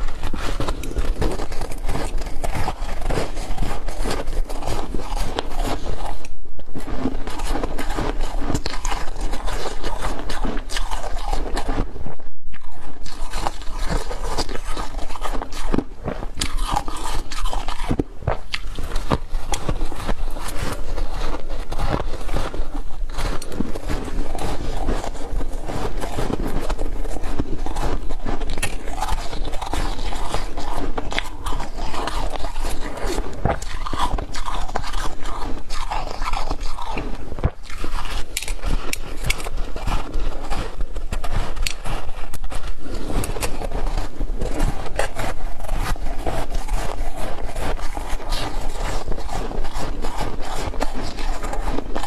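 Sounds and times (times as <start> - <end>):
crushed ice being chewed: 0.0 - 52.0.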